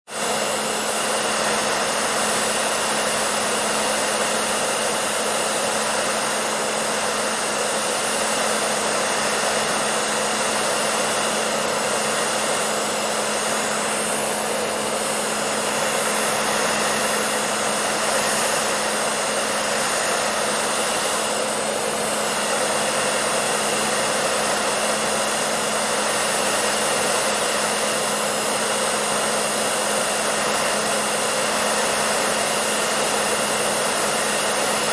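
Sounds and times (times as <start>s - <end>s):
hair dryer blowing air: 0.0s - 34.9s
motor hum: 0.2s - 34.9s.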